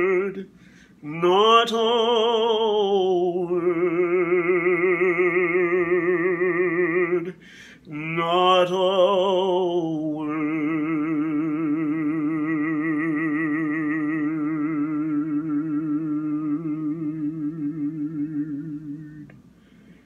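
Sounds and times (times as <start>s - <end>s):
man singing sustained note: 0.0s - 19.4s.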